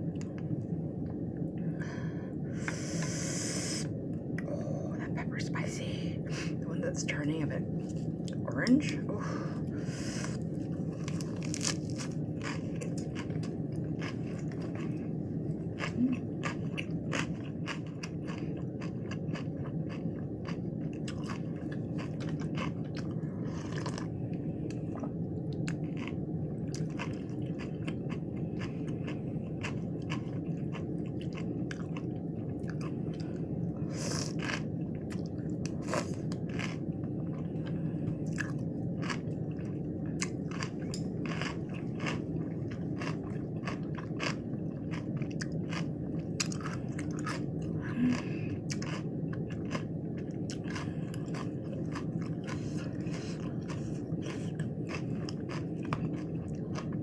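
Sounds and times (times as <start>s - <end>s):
steady low hum: 0.0s - 57.0s
crunchy chewing of vegetables: 9.6s - 57.0s.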